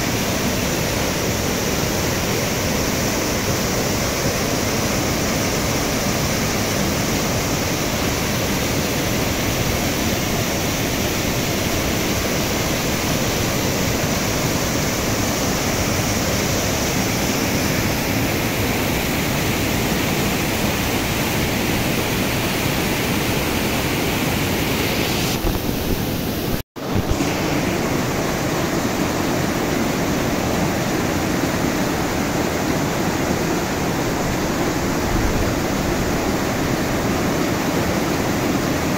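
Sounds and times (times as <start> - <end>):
mountain stream rushing over boulders: 0.0 - 38.9.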